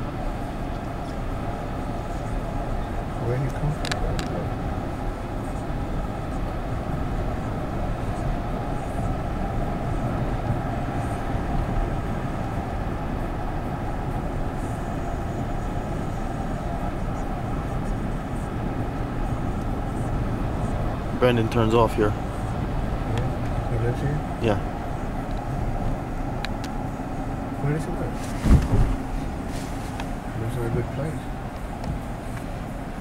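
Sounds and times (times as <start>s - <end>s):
car road and engine noise: 0.0s - 33.0s.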